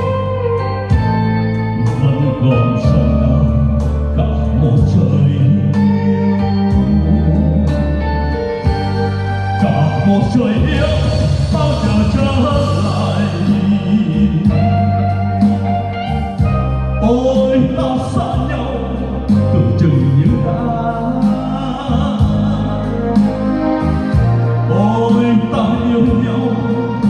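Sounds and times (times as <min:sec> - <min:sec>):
ballad song over sound system: 0:00.0 - 0:27.0.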